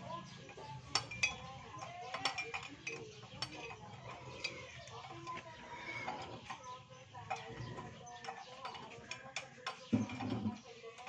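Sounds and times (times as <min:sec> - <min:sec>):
metal tools clinking on engine: 0:00.0 - 0:11.0.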